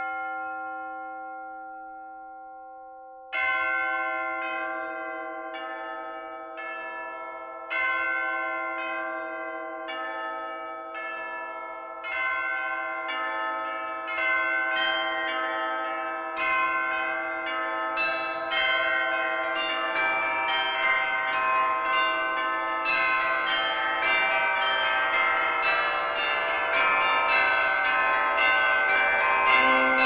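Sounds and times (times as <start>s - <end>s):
church bells ringing: 0.0s - 2.2s, 3.3s - 30.0s.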